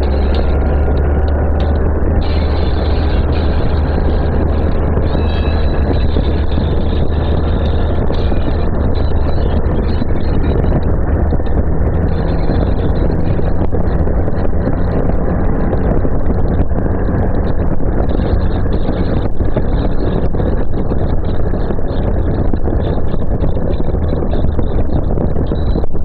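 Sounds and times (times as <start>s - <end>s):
motorcycle engine droning: 0.0s - 26.0s
wind rushing over microphone: 0.0s - 26.0s.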